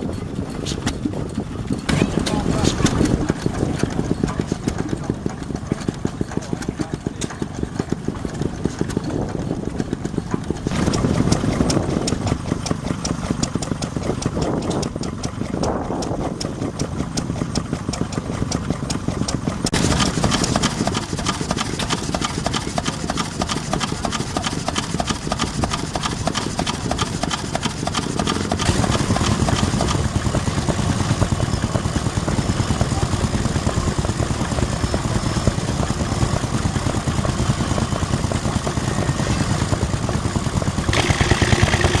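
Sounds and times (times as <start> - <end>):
stationary engines running: 0.0 - 42.0.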